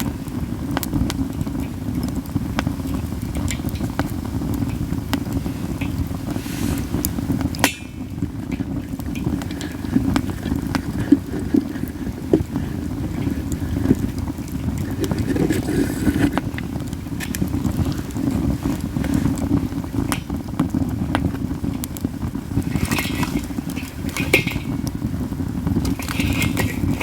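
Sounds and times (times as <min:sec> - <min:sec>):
campfire crackling and popping: 0:00.0 - 0:27.0
fire hissing spurts: 0:00.0 - 0:27.0
wind rumble on microphone: 0:00.0 - 0:27.0.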